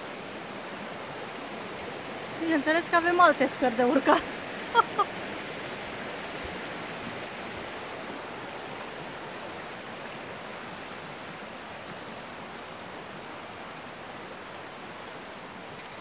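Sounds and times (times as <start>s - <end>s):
water rushing from a spring: 0.0s - 16.0s.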